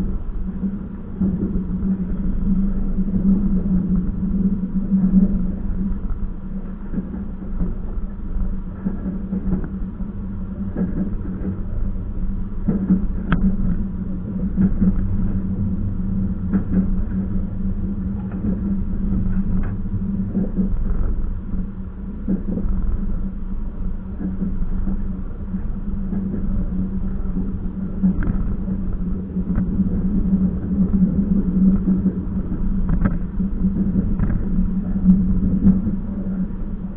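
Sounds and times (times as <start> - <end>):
train rumbling on track: 0.0 - 36.9.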